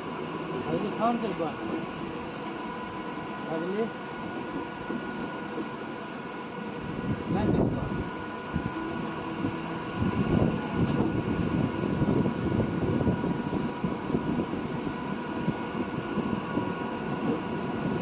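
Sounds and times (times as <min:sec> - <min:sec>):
thin steady whine: 0:00.0 - 0:18.0
train wheels rumbling over rails: 0:00.0 - 0:18.0.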